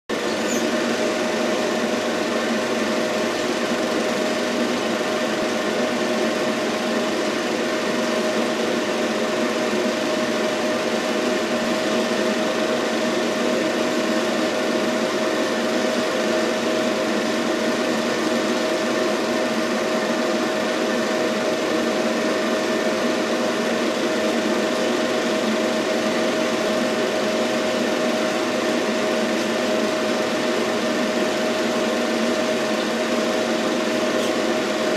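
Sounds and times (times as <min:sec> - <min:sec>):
constant humming tone: 0:00.1 - 0:34.9
film projector whirring: 0:00.1 - 0:34.9.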